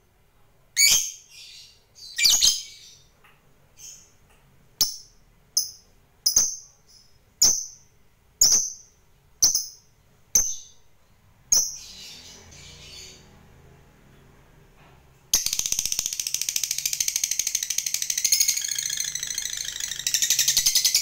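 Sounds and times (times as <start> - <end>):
lovebird chirping: 0.8 - 3.1, 3.7 - 4.2, 4.8 - 13.4, 15.3 - 21.0.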